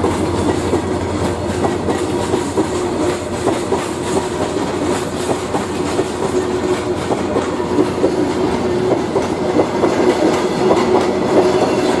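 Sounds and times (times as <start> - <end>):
train wheels clattering over rail joints: 0.0 - 12.0.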